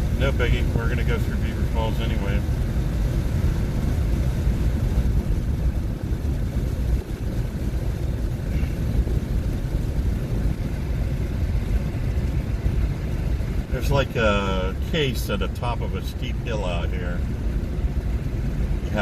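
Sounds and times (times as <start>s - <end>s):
road and tyre noise inside car: 0.0s - 19.0s.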